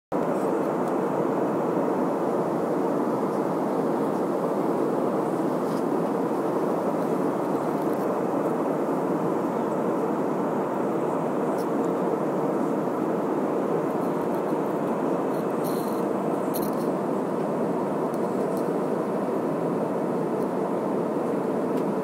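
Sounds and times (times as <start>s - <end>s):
airliner cabin engine roar: 0.1s - 22.0s.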